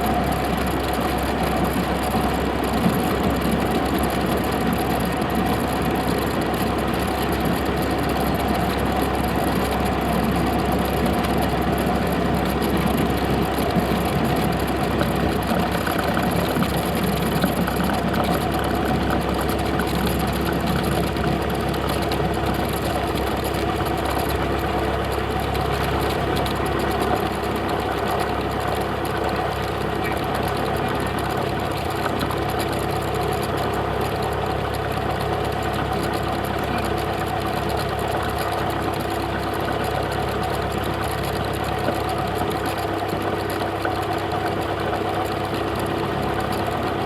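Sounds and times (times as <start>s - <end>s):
propeller plane engine droning: 0.0s - 47.0s.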